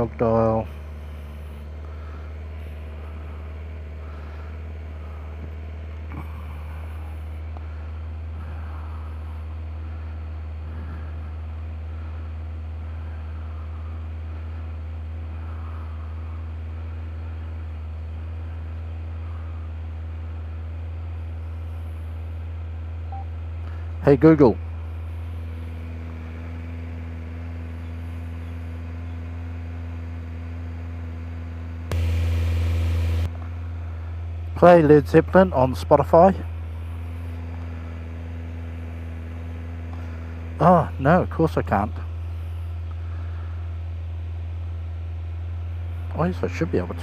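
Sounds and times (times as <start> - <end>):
motorcycle engine idling: 0.0 - 47.0.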